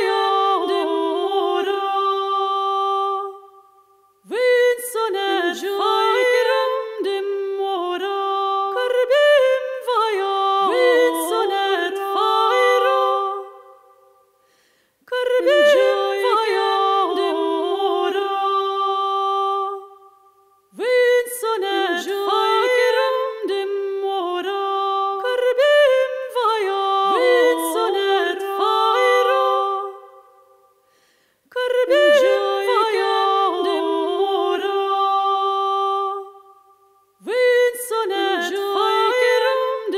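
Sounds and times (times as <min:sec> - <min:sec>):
solo voice singing slow melody: 0:00.0 - 0:14.4, 0:15.0 - 0:30.8, 0:31.5 - 0:39.9.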